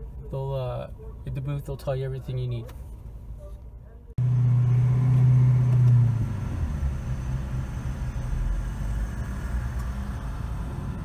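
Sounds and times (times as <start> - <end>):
low car engine rumble: 0.0 - 11.0.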